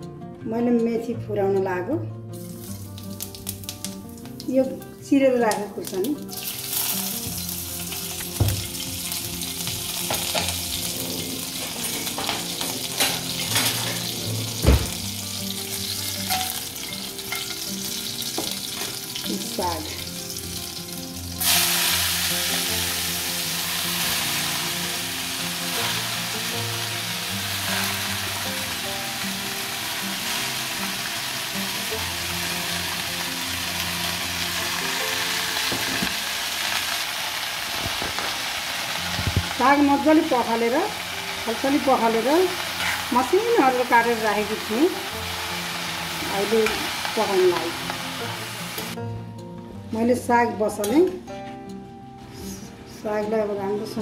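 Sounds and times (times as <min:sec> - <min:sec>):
frying in hot oil: 0:02.4 - 0:49.0.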